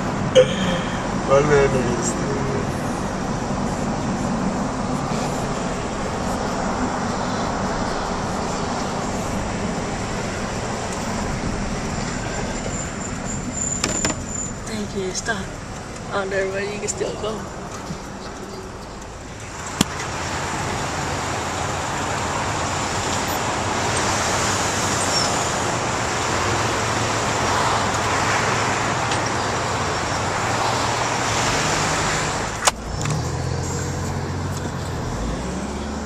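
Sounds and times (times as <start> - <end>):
low engine hum: 0.0 - 36.0
wind and road noise: 0.0 - 36.0.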